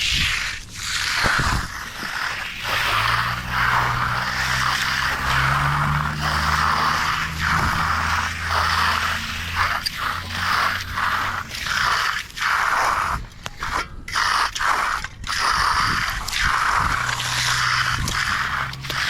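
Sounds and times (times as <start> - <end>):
hand tool scraping wet concrete: 0.0 - 19.0.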